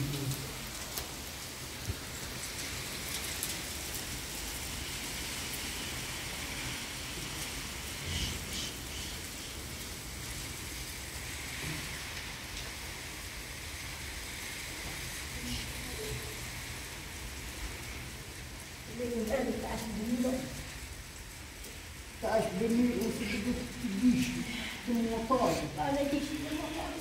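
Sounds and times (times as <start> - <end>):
steady rain hissing: 0.0 - 27.0.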